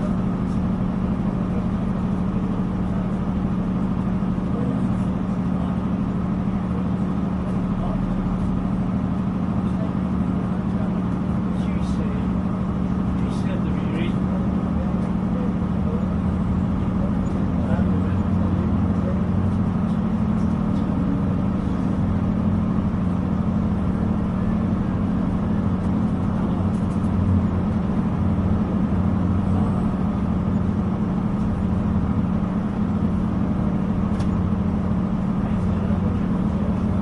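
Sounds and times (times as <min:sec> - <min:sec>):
train carriage drone and rumble: 0:00.0 - 0:37.0.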